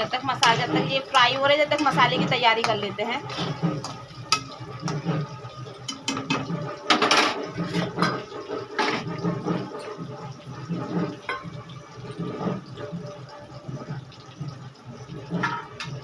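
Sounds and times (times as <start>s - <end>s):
potatoes sizzling in hot oil: 0.0s - 16.0s.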